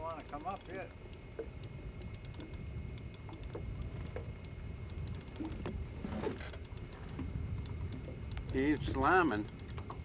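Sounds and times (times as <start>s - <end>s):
fishing reel clicks: 0.0s - 5.7s, 6.4s - 10.0s
outboard motor rumble: 0.0s - 10.0s.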